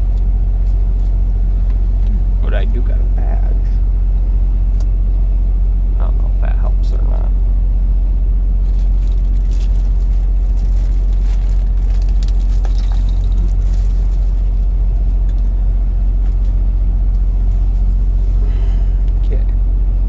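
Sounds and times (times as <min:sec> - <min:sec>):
loud low rumble: 0:00.0 - 0:20.0.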